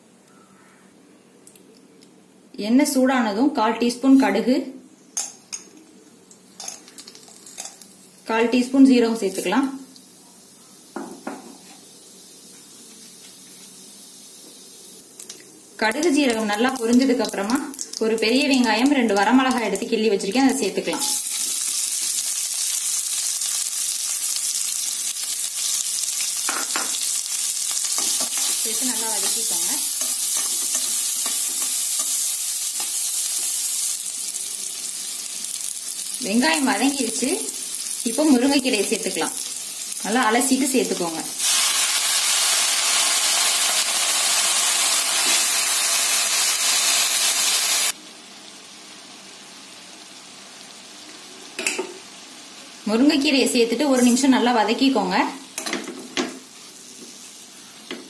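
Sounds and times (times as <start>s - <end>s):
onion frying in hot oil: 6.3s - 58.0s.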